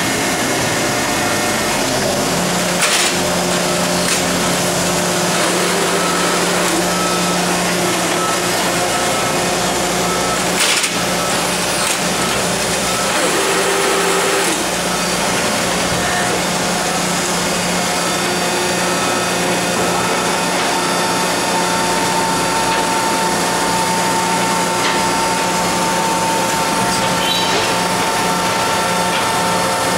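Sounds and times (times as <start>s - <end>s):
hydraulic power unit humming: 0.0s - 29.9s.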